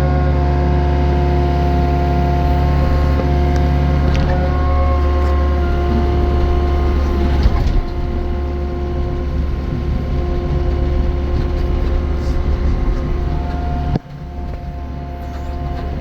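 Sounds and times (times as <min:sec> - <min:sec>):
engine whine: 0:00.0 - 0:16.0
excavator diesel engine running: 0:00.0 - 0:16.0.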